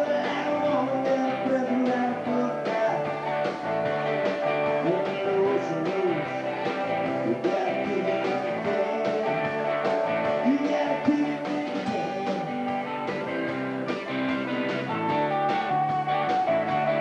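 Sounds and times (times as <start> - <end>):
electric guitar: 0.0 - 17.0
rock band playing: 0.0 - 17.0.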